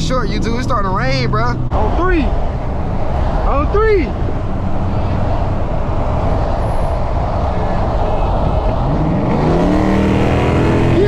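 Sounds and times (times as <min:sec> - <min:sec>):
car engine and road roar: 0:00.0 - 0:11.0.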